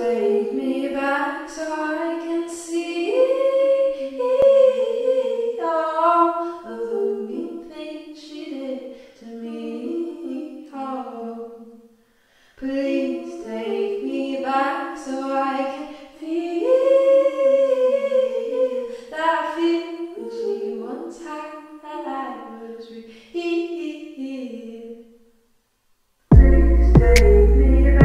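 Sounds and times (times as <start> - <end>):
person singing unaccompanied: 0.0 - 11.6, 12.6 - 25.0, 26.3 - 28.0.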